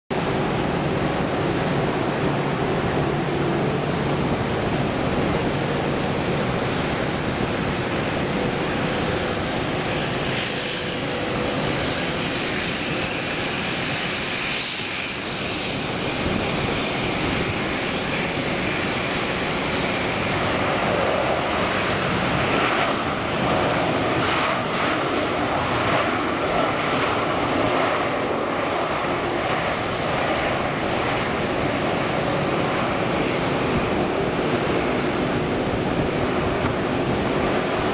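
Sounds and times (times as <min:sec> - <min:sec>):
airliner landing jet noise: 0:00.1 - 0:37.9.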